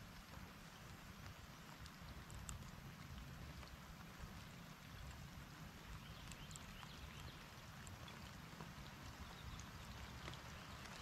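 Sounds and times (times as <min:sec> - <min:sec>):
raindrops ticking: 0:00.0 - 0:11.0.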